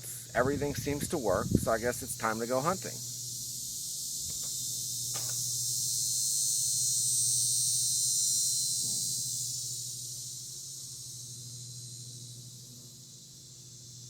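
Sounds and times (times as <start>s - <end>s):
insects chirping: 0.0s - 14.0s
steady low hum: 0.0s - 14.0s.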